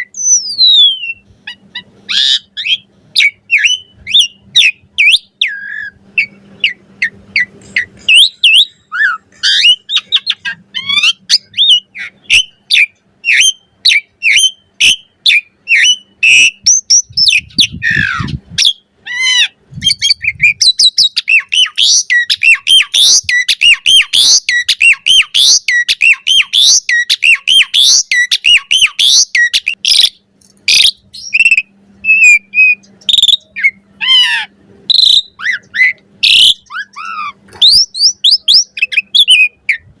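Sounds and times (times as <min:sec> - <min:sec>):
starling singing: 0:00.0 - 0:40.0.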